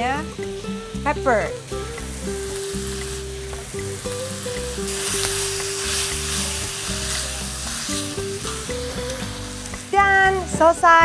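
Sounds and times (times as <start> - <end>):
background music with held notes: 0.0 - 11.0
stir-fry sizzling in a wok: 0.4 - 10.8.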